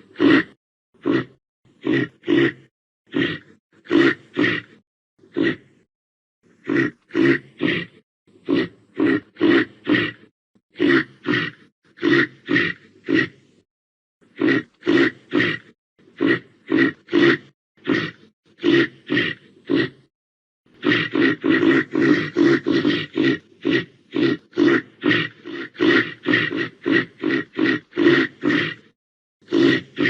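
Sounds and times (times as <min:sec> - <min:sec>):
reindeer grunting: 0:00.0 - 0:05.9, 0:06.5 - 0:13.6, 0:14.2 - 0:20.1, 0:20.7 - 0:30.0.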